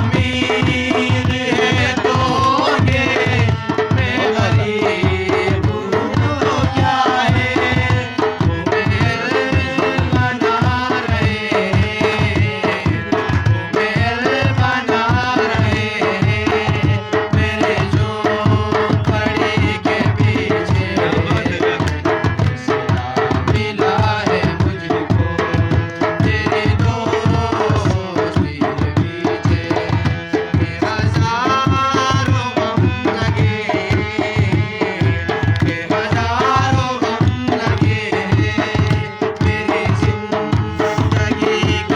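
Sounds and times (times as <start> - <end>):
tabla playing quick rhythm: 0.0 - 41.9.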